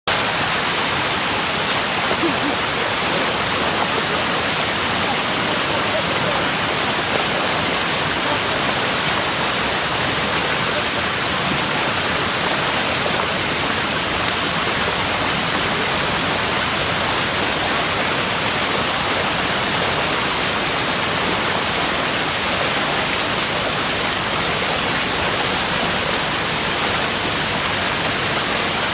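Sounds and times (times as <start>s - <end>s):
water rushing: 0.0s - 28.9s.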